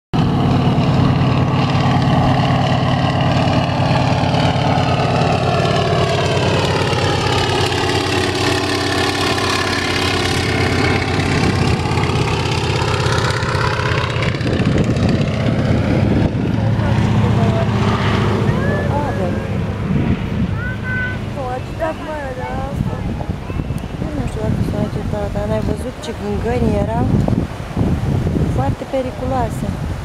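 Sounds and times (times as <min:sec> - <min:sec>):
propeller plane engine droning: 0:00.2 - 0:30.0.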